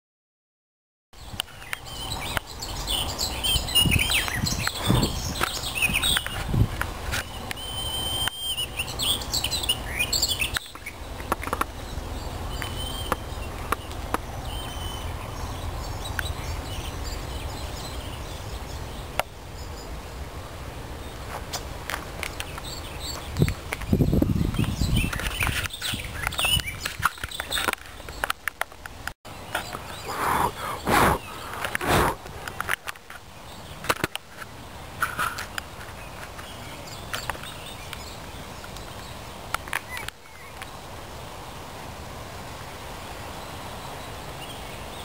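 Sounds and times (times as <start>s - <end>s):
songbirds singing and chirping: 1.2s - 41.0s, 42.8s - 45.0s.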